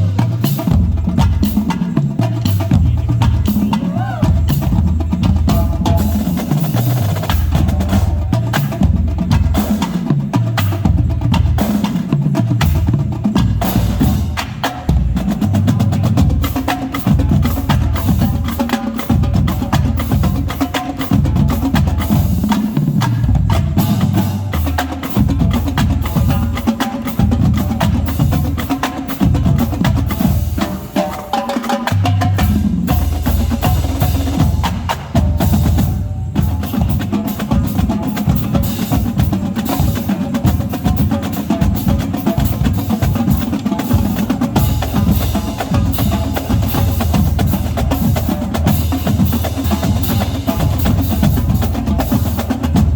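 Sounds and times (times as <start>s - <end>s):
marching drumline playing: 0.0s - 52.9s.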